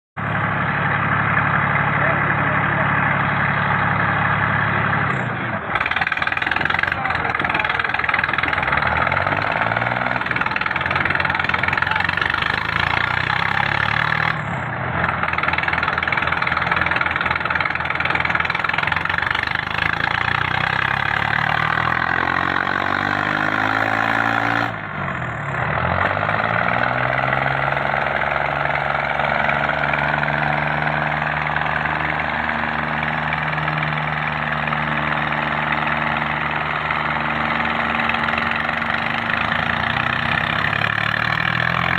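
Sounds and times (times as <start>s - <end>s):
tractor engines running hard: 0.2s - 41.9s.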